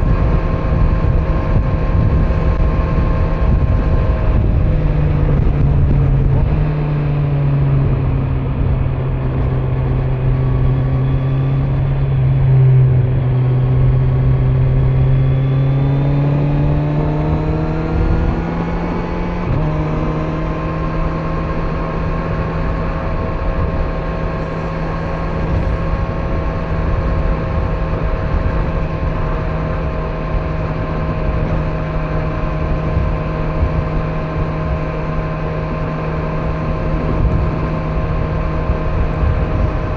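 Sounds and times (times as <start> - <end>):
motorcycle engine: 0.0 - 39.9
road noise: 0.0 - 39.9
wind noise: 0.0 - 39.9.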